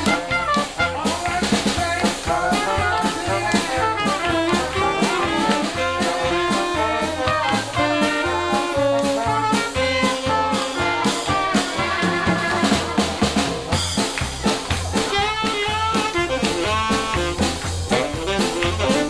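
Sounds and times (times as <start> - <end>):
jazz band playing swing: 0.0 - 19.0.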